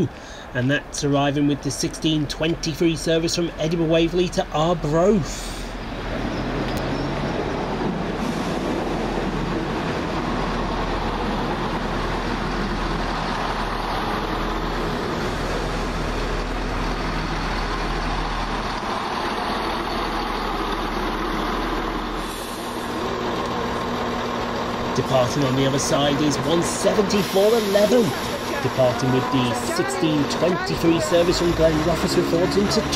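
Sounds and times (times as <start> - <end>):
diesel train engines running: 0.0 - 32.9
train wheels rolling on track: 1.4 - 32.9.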